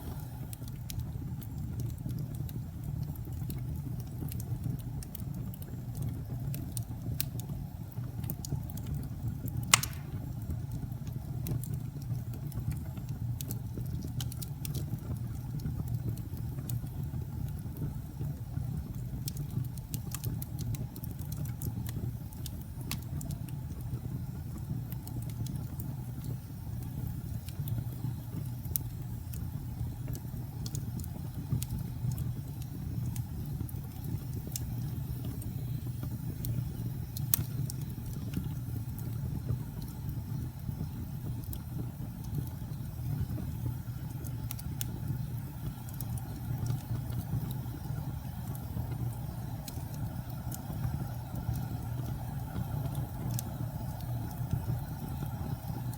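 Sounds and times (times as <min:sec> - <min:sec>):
log fire crackling and popping: 0:00.0 - 0:55.9.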